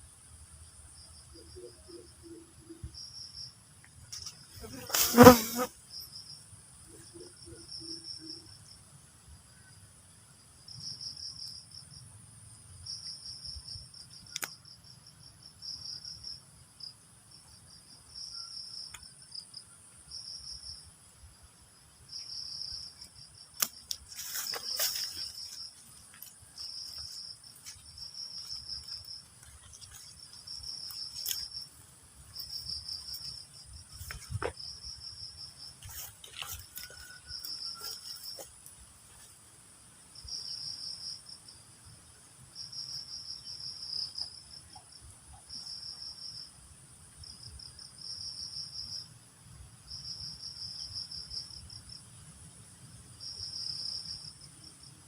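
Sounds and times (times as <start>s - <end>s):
crickets chirping: 0.0s - 55.0s
high insect drone: 0.0s - 55.0s.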